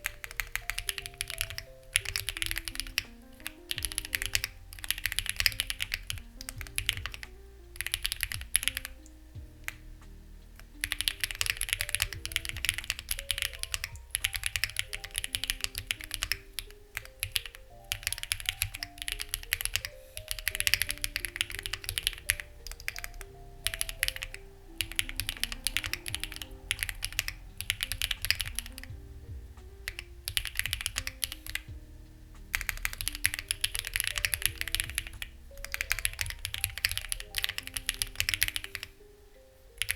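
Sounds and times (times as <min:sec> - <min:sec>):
mechanical keyboard typing: 0:00.0 - 0:09.9, 0:10.6 - 0:29.0, 0:29.7 - 0:31.8, 0:32.5 - 0:39.0
soft background music: 0:00.0 - 0:39.9.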